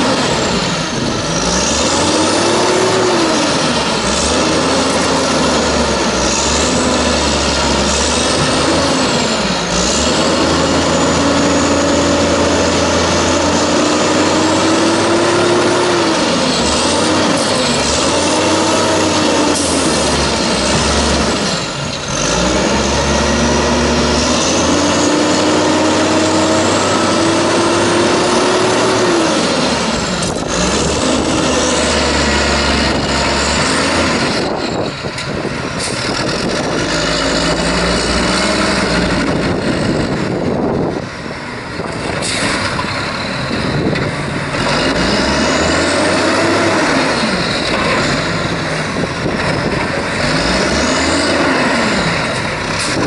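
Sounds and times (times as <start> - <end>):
garbage truck engine revving: 0.0 - 53.0.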